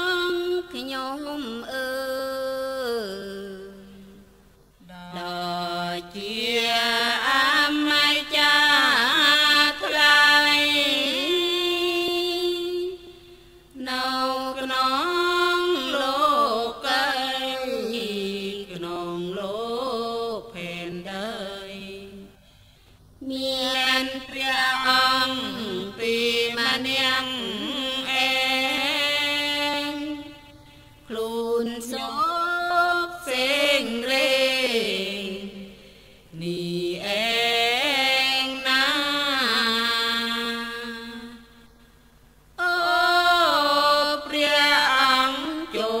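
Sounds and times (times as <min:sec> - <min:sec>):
person chanting melodically: 0:00.0 - 0:22.4, 0:23.2 - 0:41.9, 0:42.6 - 0:46.0.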